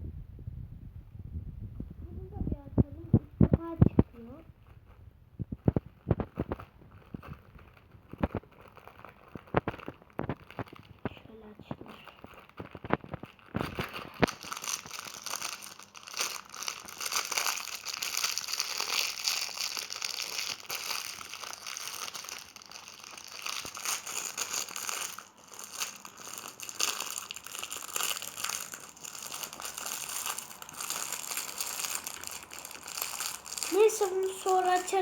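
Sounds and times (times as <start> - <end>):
packaging crinkling: 3.4 - 35.0.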